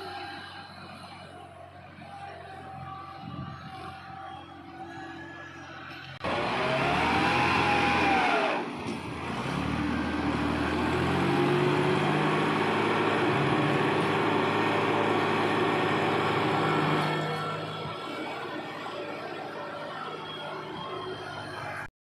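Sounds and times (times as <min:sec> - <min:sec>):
tractor engine revving: 0:00.0 - 0:21.9.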